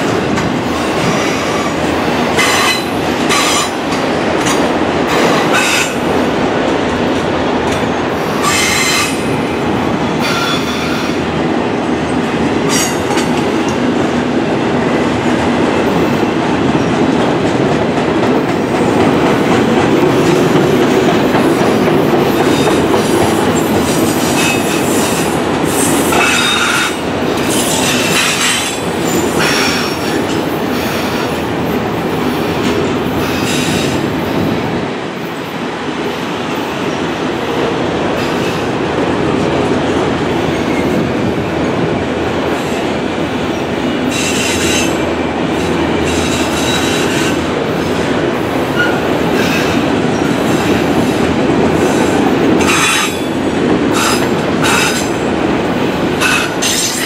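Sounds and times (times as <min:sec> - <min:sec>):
freight train wheels rumbling on rail: 0:00.0 - 0:57.0.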